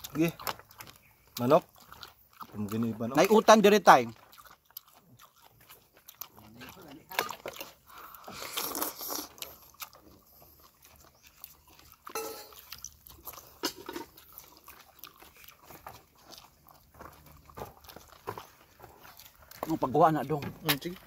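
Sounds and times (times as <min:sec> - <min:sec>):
people chewing food: 0:00.0 - 0:21.0.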